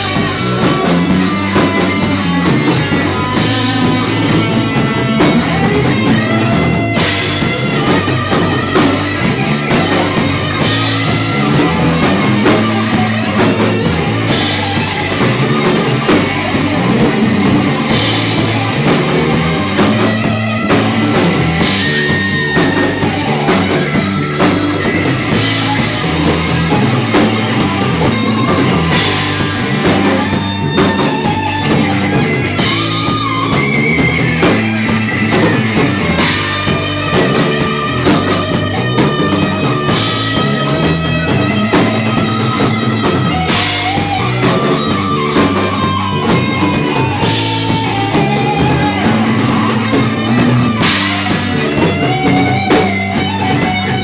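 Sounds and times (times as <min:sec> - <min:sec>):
bass guitar: 0:00.0 - 0:54.0
drum kit: 0:00.0 - 0:54.0
electric guitar lead: 0:00.0 - 0:54.0.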